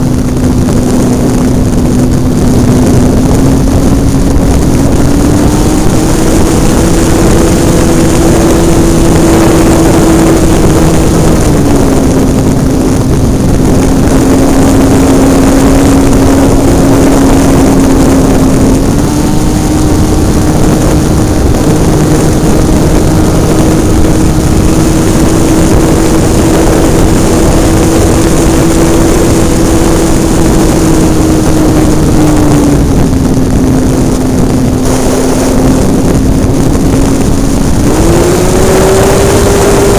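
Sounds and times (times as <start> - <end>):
loud rushing noise: 0.0 - 39.9
model airplane engine running: 0.0 - 39.9.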